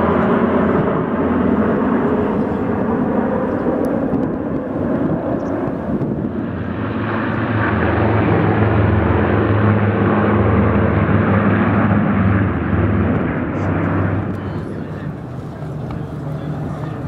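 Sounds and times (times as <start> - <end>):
piston aircraft engines droning: 0.0 - 17.0
turboprop aircraft rushing past: 0.0 - 17.0.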